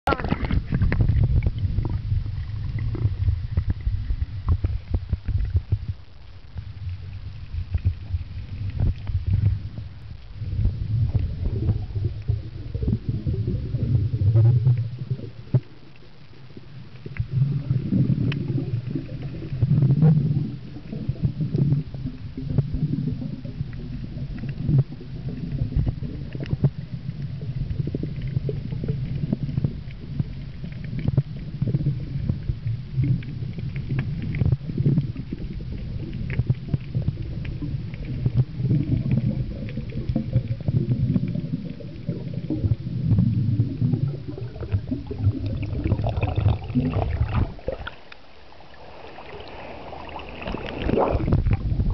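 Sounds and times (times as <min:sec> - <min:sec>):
underwater rumbling and gurgling: 0:00.0 - 0:51.9.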